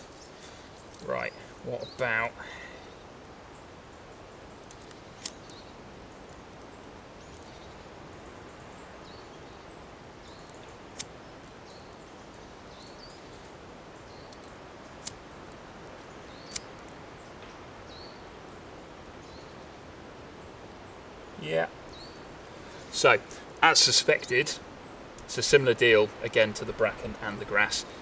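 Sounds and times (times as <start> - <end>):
faint bird chirps: 0.0 - 15.1, 16.0 - 28.0
woodland background: 0.0 - 28.0.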